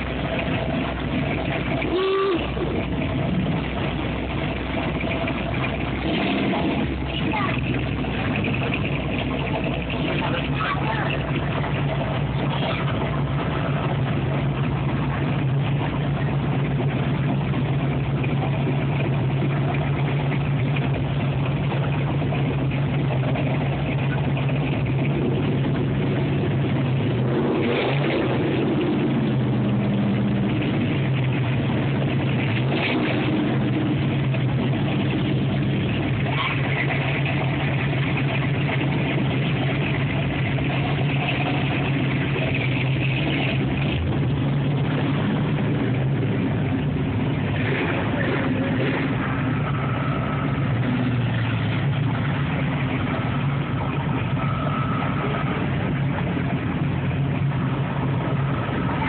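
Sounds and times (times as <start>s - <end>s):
cars driving slowly past: 0.0s - 59.0s.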